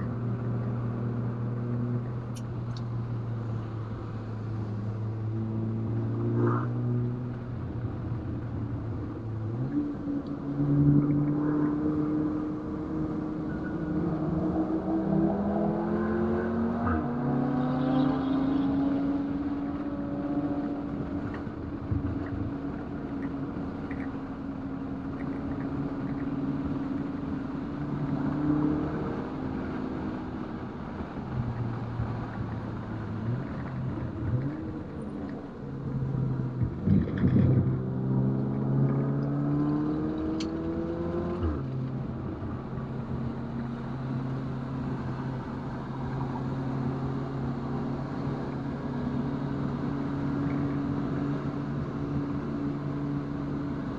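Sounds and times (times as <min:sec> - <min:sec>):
car engine revving at speed: 0:00.0 - 0:53.9.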